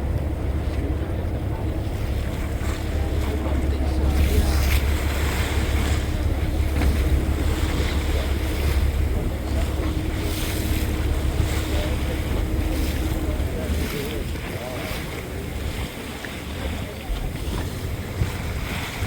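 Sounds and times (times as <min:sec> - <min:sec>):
faint hum: 0:00.0 - 0:15.6
boat engine rumbling: 0:00.0 - 0:19.0
water rushing past hull: 0:00.0 - 0:19.0
wind buffeting microphone: 0:00.0 - 0:19.0.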